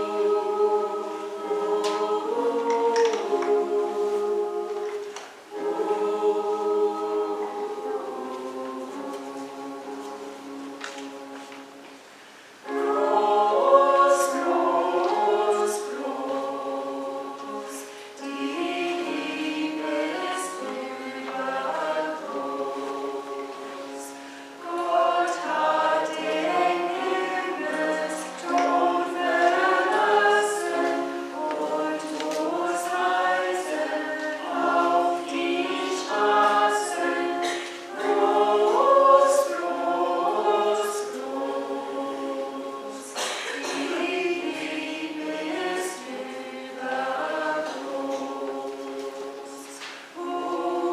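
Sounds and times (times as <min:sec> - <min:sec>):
church choir singing: 0:00.0 - 0:50.9.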